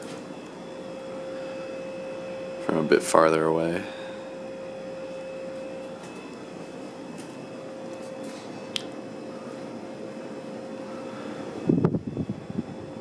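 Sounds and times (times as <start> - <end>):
ceiling fan whirring: 0.0 - 13.0
mini fridge humming: 0.0 - 13.0.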